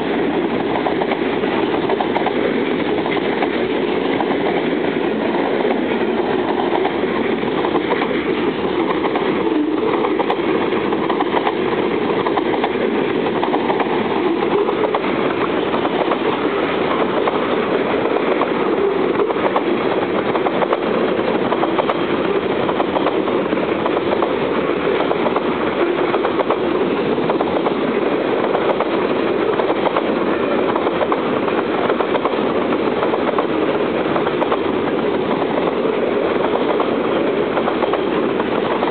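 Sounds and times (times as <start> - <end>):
train wheels rolling on rail: 0.0 - 38.9.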